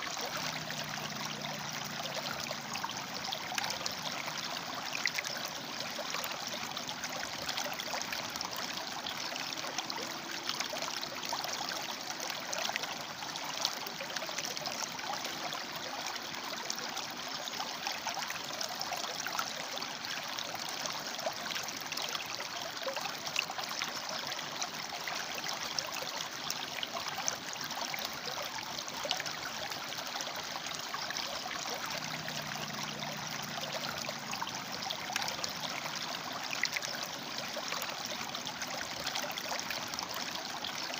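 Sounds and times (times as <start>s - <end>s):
river running over rocks: 0.0s - 21.4s, 23.2s - 40.9s.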